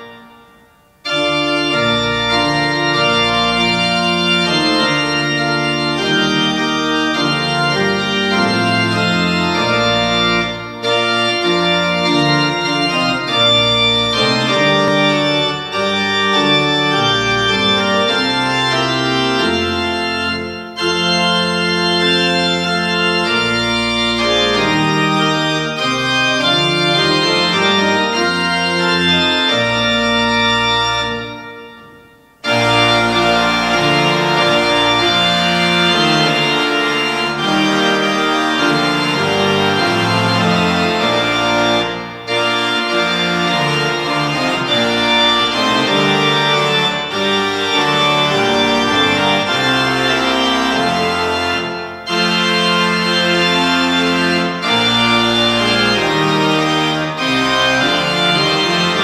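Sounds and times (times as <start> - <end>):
organ chords: 0.0 - 59.0.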